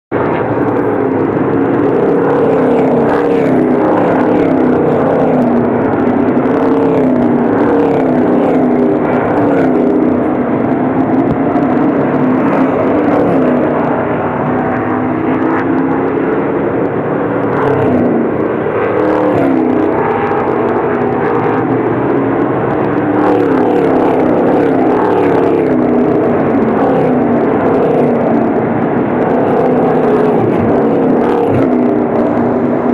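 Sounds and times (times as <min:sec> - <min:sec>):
race cars engines roaring: 0:00.1 - 0:32.9.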